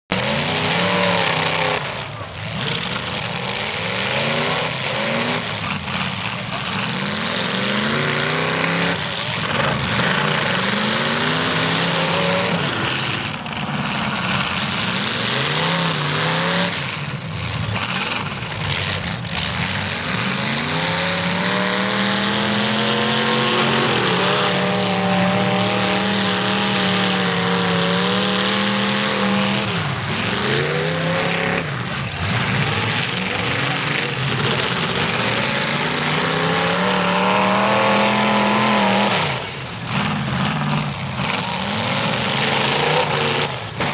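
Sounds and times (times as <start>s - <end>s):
car engines revving hard: 0.0s - 43.9s.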